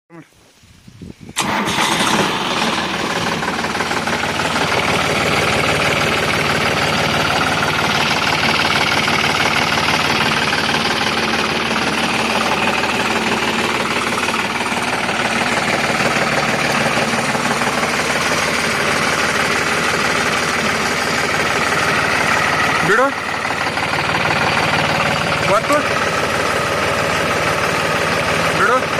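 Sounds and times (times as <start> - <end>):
air compressor running: 1.4 - 28.9
diesel tractor engine idling: 1.4 - 28.9.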